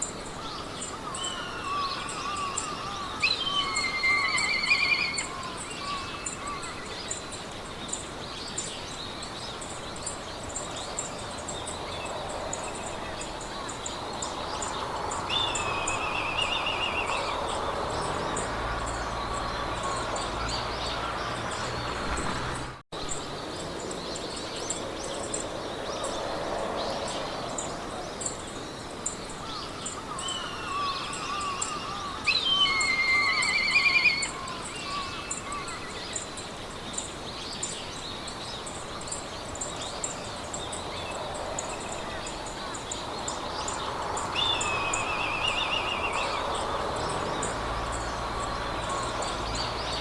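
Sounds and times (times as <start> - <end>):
birds singing trills: 0.0 - 50.0
wind through grass: 0.0 - 50.0.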